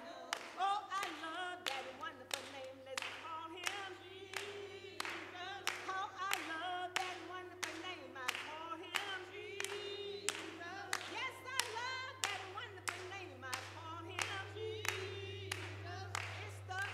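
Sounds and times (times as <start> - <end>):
women singing unaccompanied: 0.0 - 16.9
hand claps: 0.3 - 16.9.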